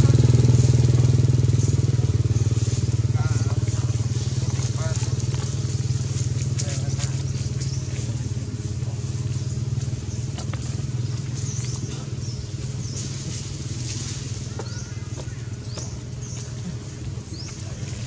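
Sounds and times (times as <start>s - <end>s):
motor engine pulsing rumble: 0.0s - 18.0s.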